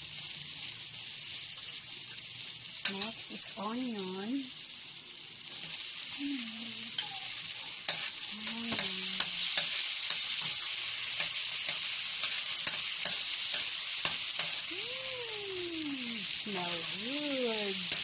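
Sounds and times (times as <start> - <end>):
onion sizzling in a wok: 0.0 - 18.0.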